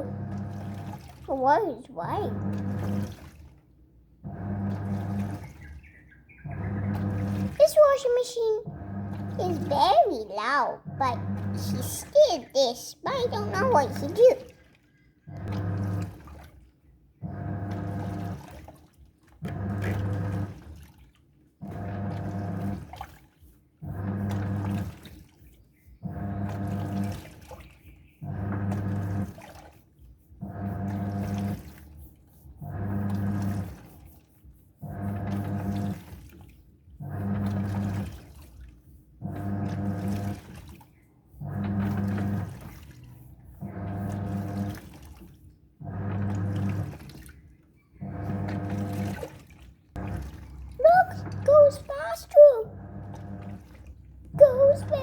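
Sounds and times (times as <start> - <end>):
washing machine motor humming: 0.0 - 3.6, 4.2 - 21.0, 21.6 - 55.0
water sloshing in drum: 0.0 - 55.0.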